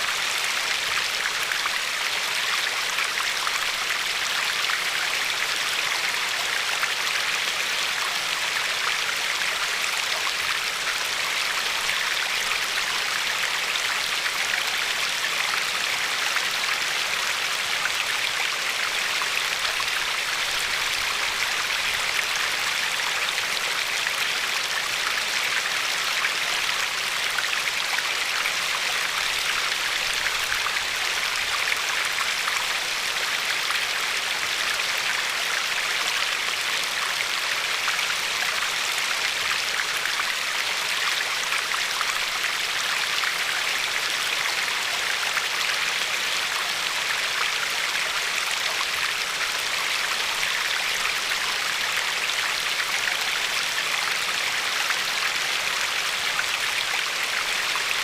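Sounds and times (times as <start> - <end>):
river water flowing over pebbles: 0.0 - 58.0.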